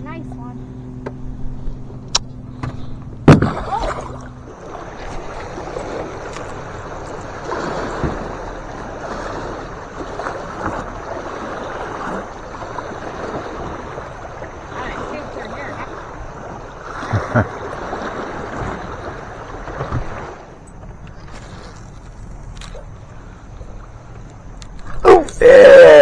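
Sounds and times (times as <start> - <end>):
low steady hum: 0.0 - 26.0
river water rushing around boat: 0.0 - 26.0.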